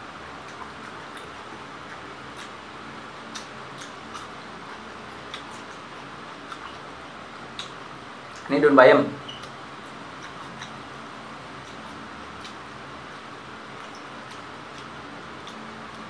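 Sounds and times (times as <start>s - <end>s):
man chewing with mouth clicks: 0.0s - 8.5s, 9.2s - 16.0s
faint hum: 0.0s - 16.0s
steady background hiss: 0.0s - 16.0s.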